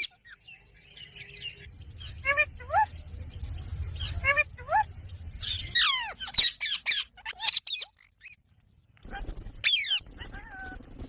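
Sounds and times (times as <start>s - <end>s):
parakeet squawking and chirping: 0.0s - 0.6s, 1.2s - 2.9s, 4.0s - 10.8s.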